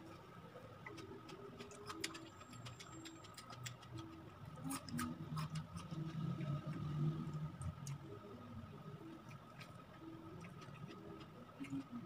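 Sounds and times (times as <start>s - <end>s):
wet chewing clicks: 0.8s - 8.0s, 9.2s - 12.0s.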